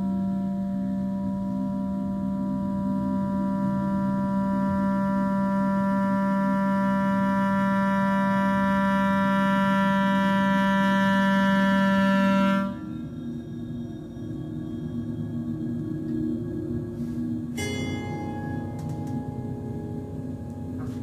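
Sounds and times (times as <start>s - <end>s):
long low held note: 0.0s - 21.0s.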